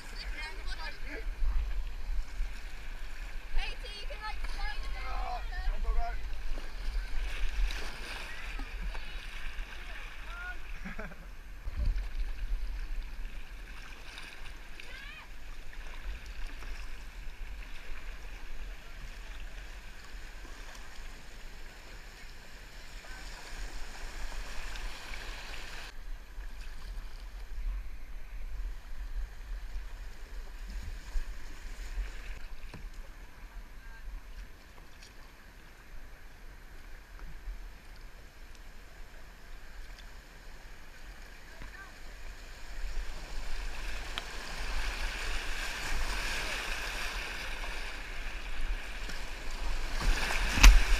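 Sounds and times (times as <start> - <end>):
whitewater rushing around kayak: 0.0 - 50.9.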